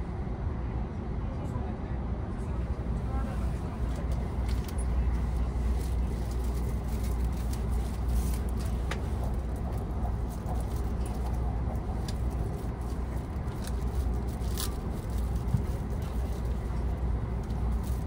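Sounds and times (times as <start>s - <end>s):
train running inside carriage: 0.0s - 18.0s.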